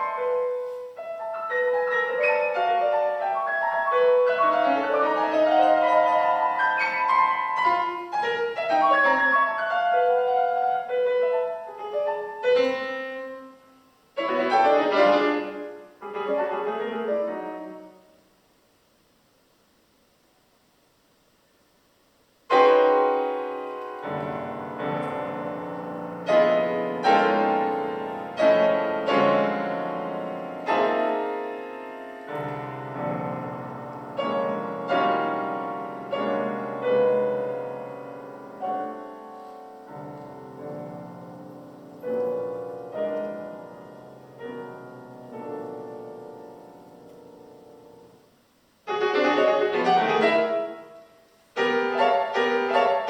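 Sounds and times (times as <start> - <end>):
solo piano: 0.0 - 18.4, 22.5 - 53.0.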